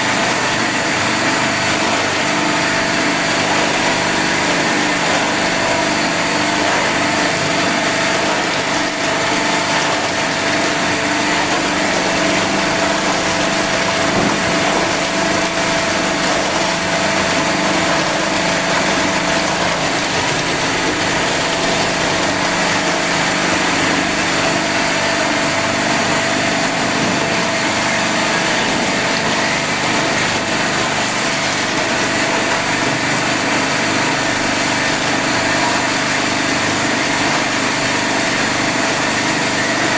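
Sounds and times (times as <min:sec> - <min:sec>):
ice machine humming: 0:00.0 - 0:39.9.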